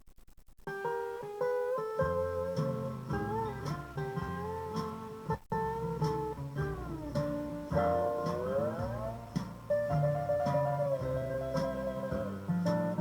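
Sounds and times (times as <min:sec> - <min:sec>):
guitar plucked notes: 0:00.7 - 0:13.0.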